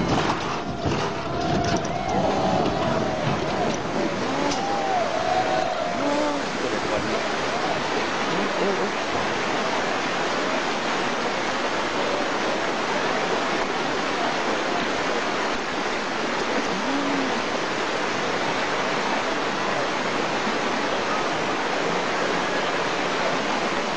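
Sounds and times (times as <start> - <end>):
floodwater rushing: 0.0 - 23.9.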